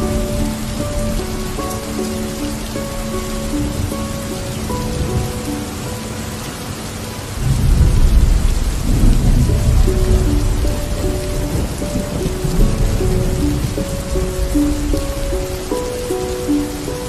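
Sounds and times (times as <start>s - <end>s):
thunder rumbling: 0.0s - 5.7s, 7.3s - 16.9s
soft slow music: 0.0s - 17.0s
steady rain: 0.0s - 17.0s.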